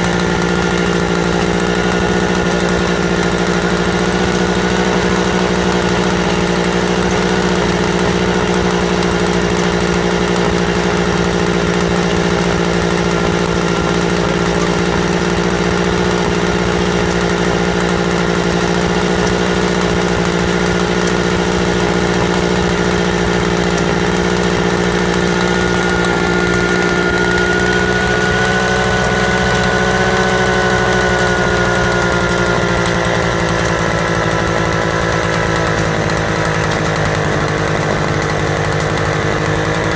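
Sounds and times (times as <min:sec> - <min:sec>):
two-stroke stationary engine running: 0:00.0 - 0:39.9.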